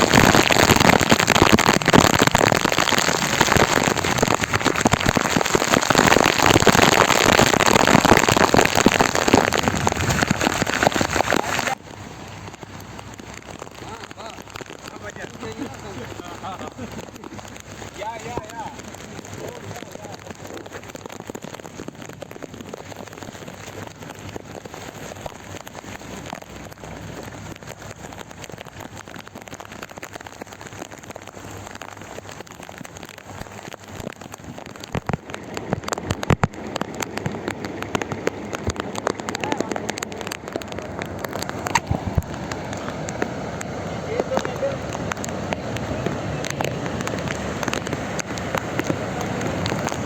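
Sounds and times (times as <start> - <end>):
heavy rain falling: 0.0 - 50.0
raindrops tapping on surfaces: 0.0 - 50.0.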